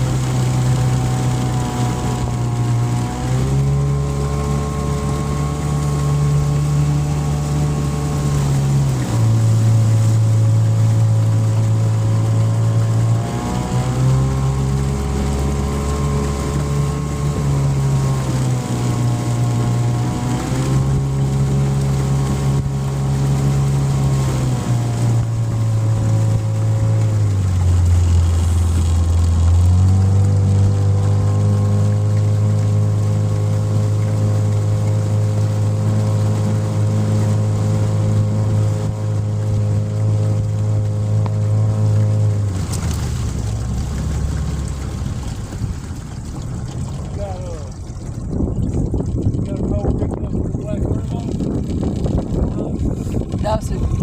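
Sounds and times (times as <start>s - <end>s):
outboard motorboat engine: 0.0s - 54.0s.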